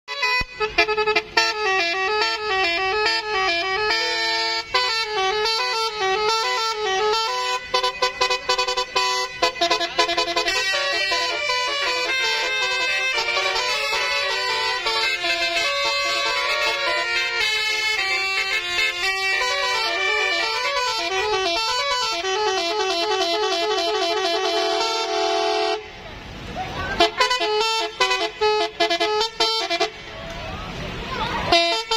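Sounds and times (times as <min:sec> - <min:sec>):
multi-tone bus horn melody: 0:00.0 - 0:30.2, 0:31.4 - 0:31.9.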